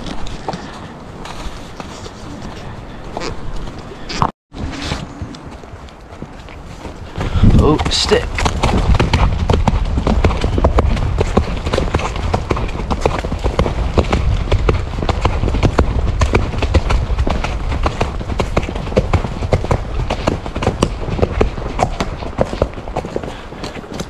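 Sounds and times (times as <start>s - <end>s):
horse hooves on dirt track: 0.0s - 24.0s.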